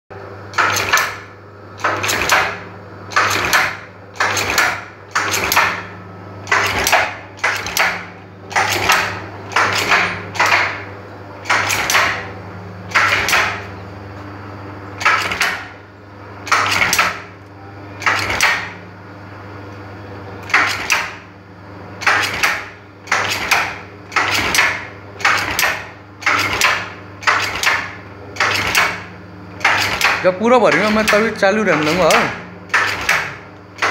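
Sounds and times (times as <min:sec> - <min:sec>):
steady motor hum: 0:00.1 - 0:33.9.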